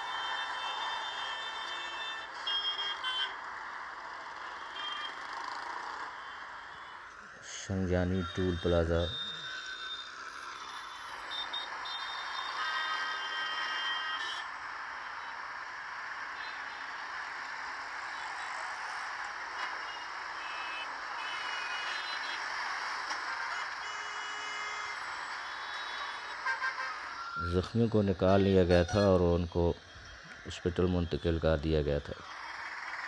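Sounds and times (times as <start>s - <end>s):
high warning tone: 0.0s - 33.0s
road traffic: 0.0s - 33.0s.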